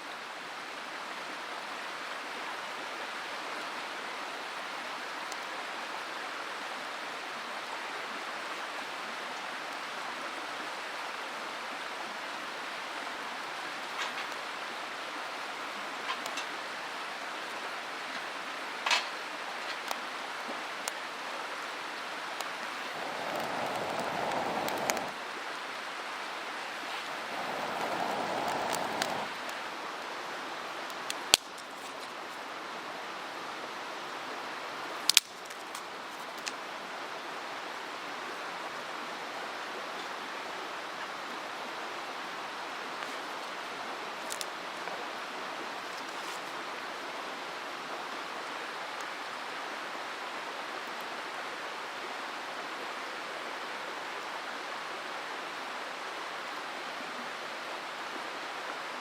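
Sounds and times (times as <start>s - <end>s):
mountain stream rushing: 0.0s - 59.0s.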